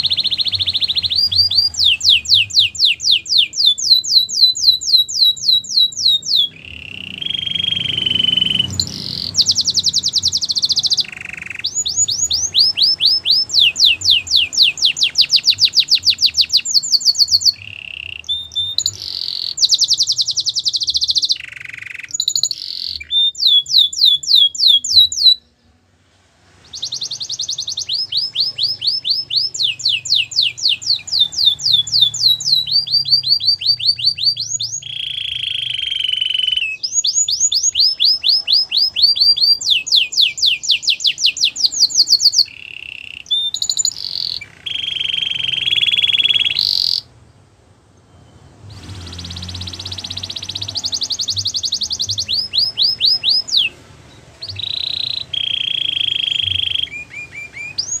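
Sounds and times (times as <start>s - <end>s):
canary singing rapid trills: 0.0s - 25.6s, 26.5s - 47.2s, 48.2s - 58.0s.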